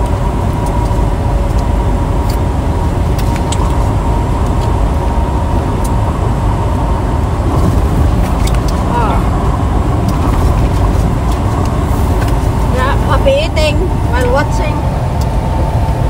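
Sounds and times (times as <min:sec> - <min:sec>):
faint constant whine: 0:00.0 - 0:16.0
truck engine and road rumble: 0:00.0 - 0:16.0.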